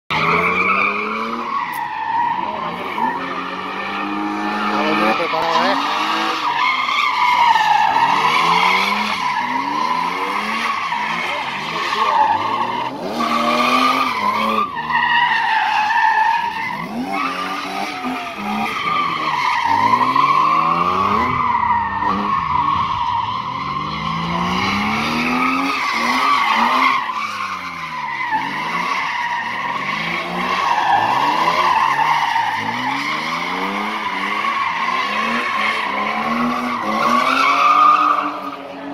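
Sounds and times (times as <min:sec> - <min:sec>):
car engine revving: 0:00.1 - 0:38.9.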